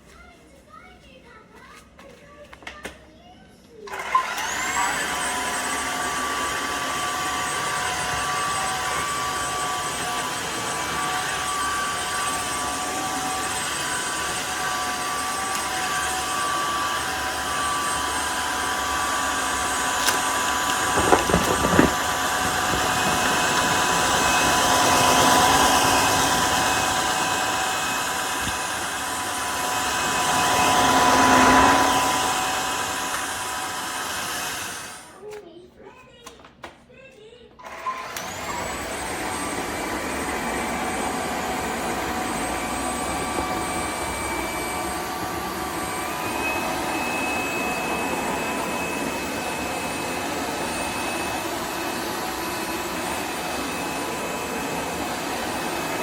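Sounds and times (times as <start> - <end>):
vacuum mop motor whine: 3.9 - 35.3, 37.6 - 56.0.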